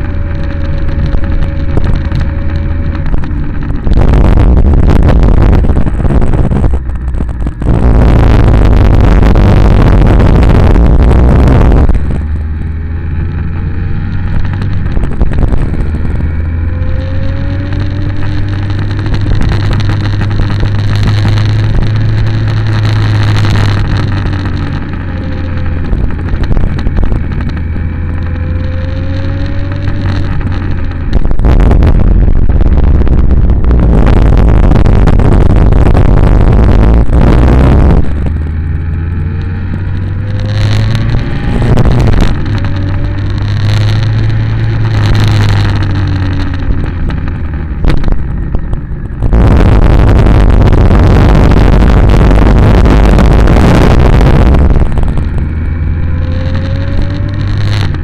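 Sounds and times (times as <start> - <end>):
vehicle engine running: 0.0 - 58.0
wind noise on microphone: 0.0 - 58.0.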